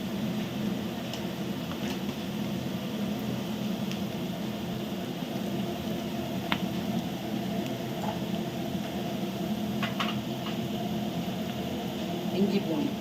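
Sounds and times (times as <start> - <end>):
onions frying in hot oil: 0.0 - 13.0.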